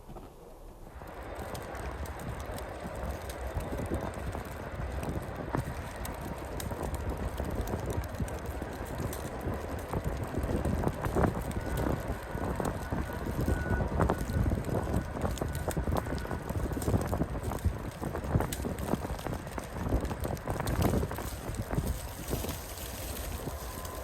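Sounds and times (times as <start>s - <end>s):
low rumble: 0.4s - 24.0s
snow crackling ticks: 0.9s - 24.0s
wind gusting over microphone: 0.9s - 24.0s.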